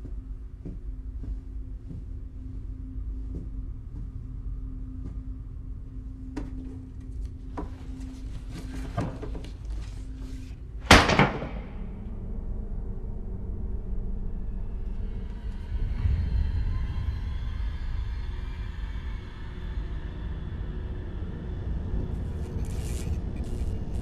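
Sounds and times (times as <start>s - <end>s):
low rumbling drone: 0.0s - 24.0s
steady low hum: 0.0s - 24.0s.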